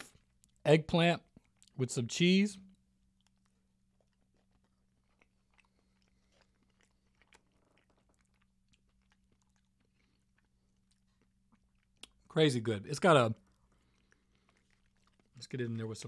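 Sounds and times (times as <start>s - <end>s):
faint chewing: 0.0s - 0.6s, 1.2s - 1.8s, 2.7s - 16.0s.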